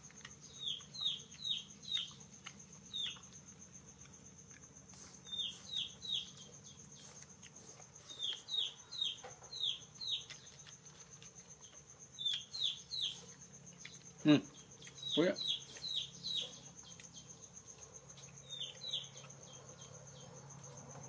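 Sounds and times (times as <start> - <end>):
bird chirping: 0.0 - 2.3, 2.9 - 3.4, 5.2 - 11.0, 11.6 - 21.0
high insect drone: 0.0 - 21.0.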